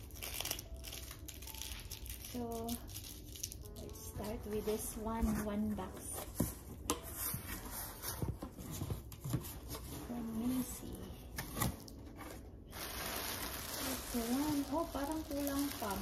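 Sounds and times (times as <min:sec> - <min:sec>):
plastic wrapping crinkling: 0:00.0 - 0:06.4, 0:07.1 - 0:16.0.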